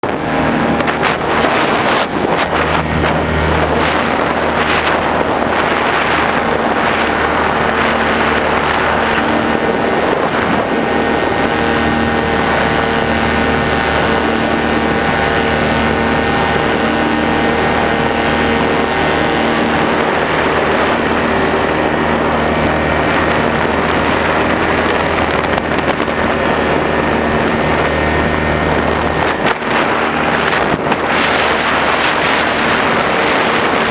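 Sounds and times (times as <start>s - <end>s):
engine running: 0.0s - 33.9s
loud rushing noise: 0.0s - 33.9s.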